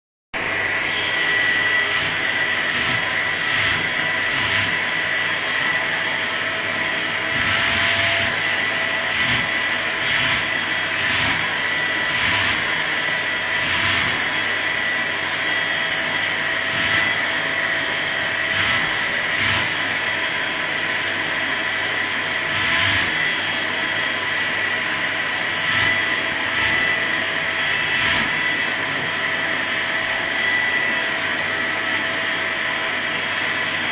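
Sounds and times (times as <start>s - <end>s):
vacuum cleaner whining: 0.4s - 33.9s.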